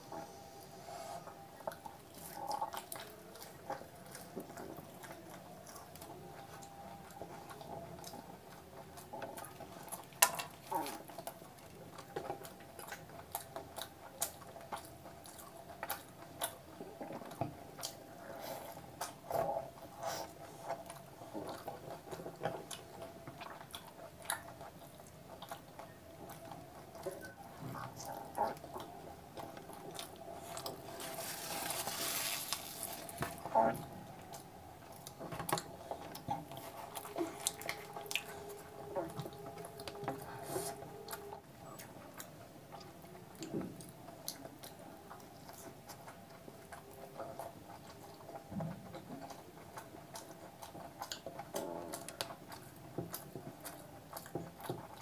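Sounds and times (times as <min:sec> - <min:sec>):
faint steady hum: 0:00.0 - 0:55.0
wet chewing and smacks: 0:01.3 - 0:55.0.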